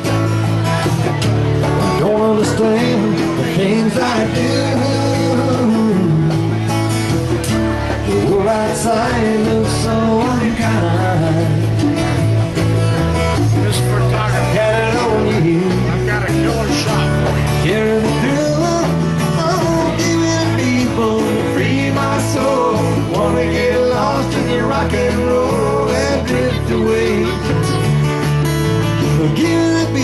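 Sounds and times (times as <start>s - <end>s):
guitar: 0.0s - 30.0s
live band playing country-rock: 0.0s - 30.0s
steady bass line: 0.0s - 30.0s.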